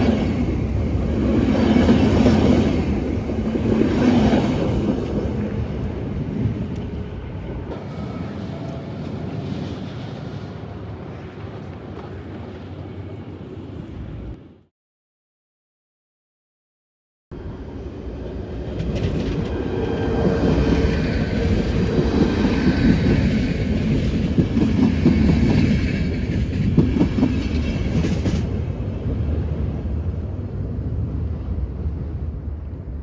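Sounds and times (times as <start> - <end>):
train wheels rumbling on rails: 0.0 - 14.4, 17.8 - 33.0
high steady train whine: 0.0 - 14.7, 17.3 - 33.0.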